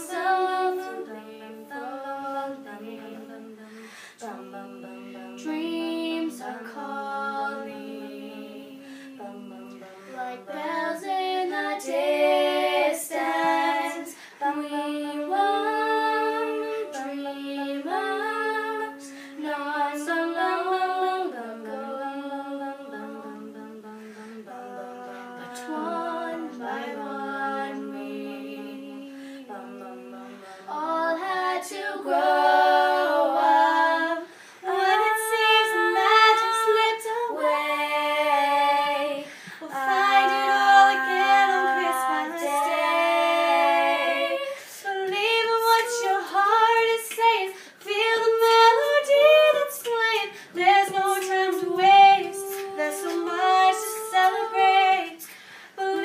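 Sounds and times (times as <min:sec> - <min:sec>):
girls singing a cappella: 0:00.0 - 0:56.0.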